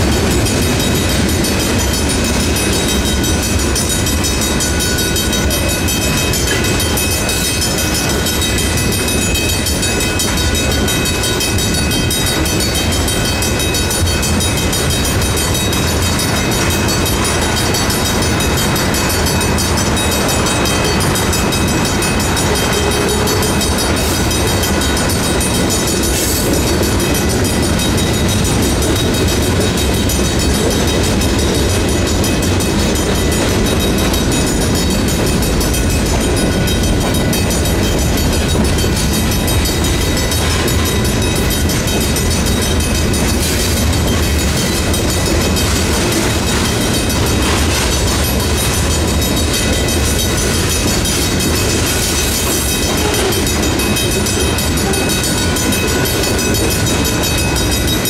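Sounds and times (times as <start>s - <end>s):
crossing bell ringing: 0.0s - 58.0s
freight train wheels clattering: 0.0s - 58.0s.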